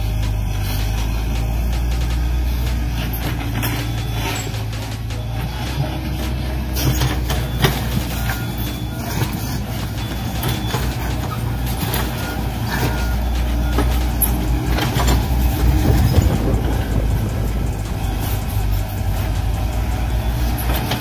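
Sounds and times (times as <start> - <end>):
low engine-like rumble: 0.0 - 21.0
short faint beeps: 3.6 - 21.0.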